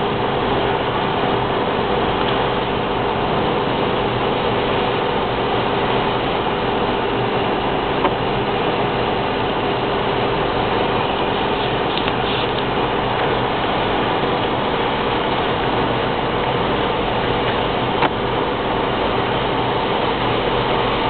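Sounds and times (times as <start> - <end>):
car cabin road and engine noise: 0.0 - 21.0
tyres on wet road: 0.0 - 21.0.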